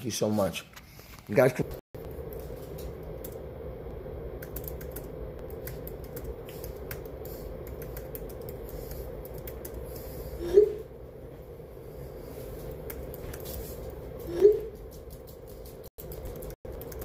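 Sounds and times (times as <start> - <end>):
steady hum: 1.5 - 17.0.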